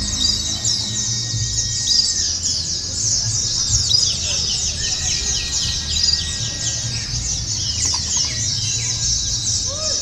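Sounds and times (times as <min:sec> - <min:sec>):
birds chirping and trilling: 0:00.0 - 0:10.0.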